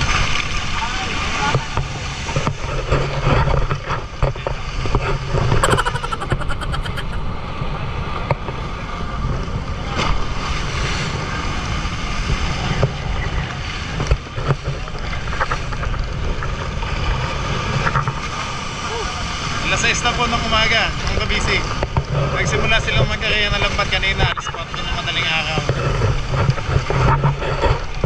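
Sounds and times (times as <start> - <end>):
boat engine drone: 0.0 - 28.0
water noise: 0.0 - 28.0
wind: 0.0 - 28.0.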